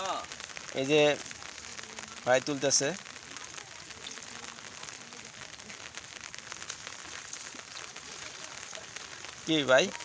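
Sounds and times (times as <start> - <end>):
water drops pattering on water: 0.0 - 10.0.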